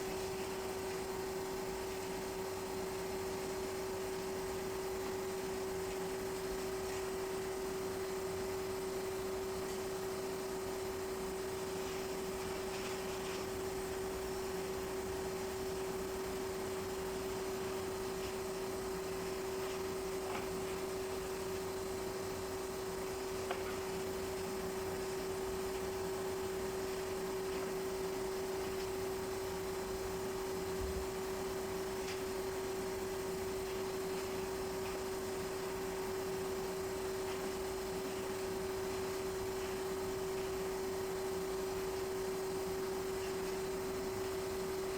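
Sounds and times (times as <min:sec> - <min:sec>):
steady hum: 0:00.0 - 0:44.9.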